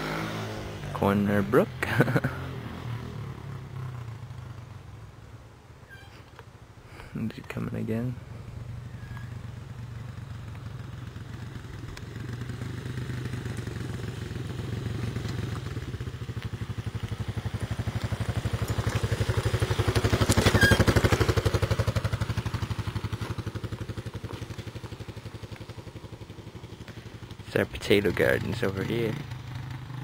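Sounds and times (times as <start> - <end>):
off-road vehicle engine passing: 0.0 - 4.9, 8.0 - 30.0.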